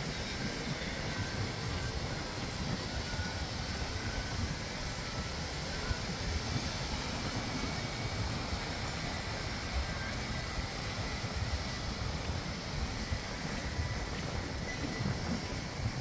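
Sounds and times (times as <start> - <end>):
light surf: 0.0 - 16.0
wind rumbling on microphone: 0.0 - 16.0.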